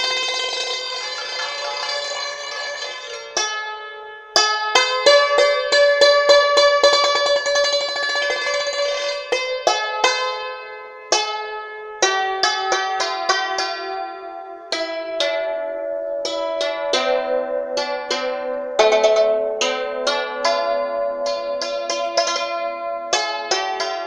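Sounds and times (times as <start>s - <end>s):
hammered dulcimer melody: 0.0s - 24.0s.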